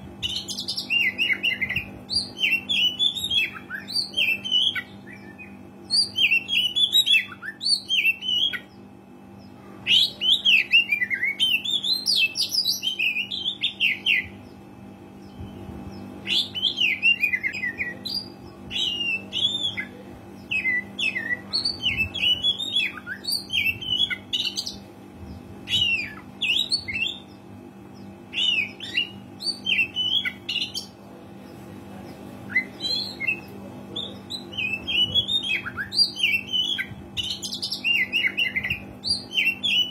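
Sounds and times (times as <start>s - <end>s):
steady low hum: 0.0s - 39.9s
bird singing chirps and whistles: 0.2s - 8.8s, 9.9s - 14.6s, 15.2s - 24.8s, 25.6s - 27.4s, 28.0s - 30.9s, 32.5s - 39.9s.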